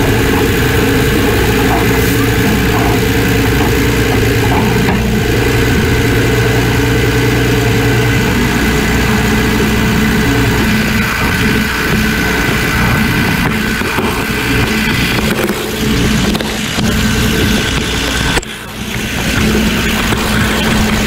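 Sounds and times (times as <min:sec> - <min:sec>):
diesel engine running: 0:00.0 - 0:21.0
rush of air and road noise: 0:00.0 - 0:21.0
turbocharger whine: 0:00.0 - 0:21.0.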